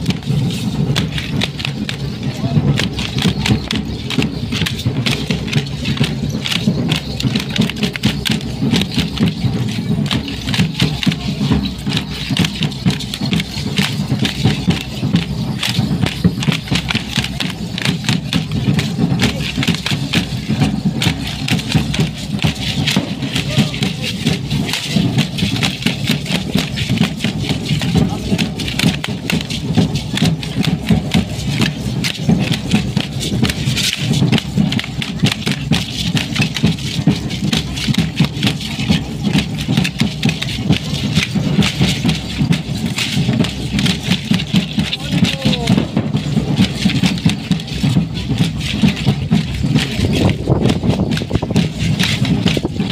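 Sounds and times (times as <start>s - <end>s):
costumes rattling: 0.0s - 52.9s
drum beat: 0.0s - 52.9s
feet stamping: 0.0s - 52.9s.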